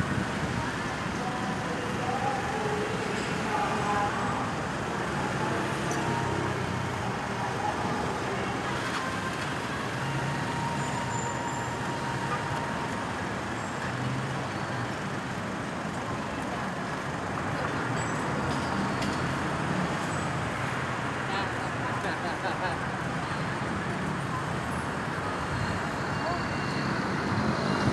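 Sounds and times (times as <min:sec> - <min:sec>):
road traffic: 0:00.0 - 0:27.9.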